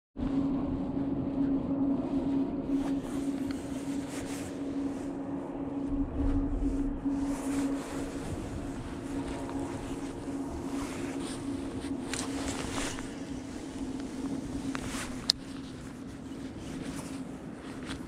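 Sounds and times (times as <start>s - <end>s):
boat motor humming: 0.2s - 17.7s.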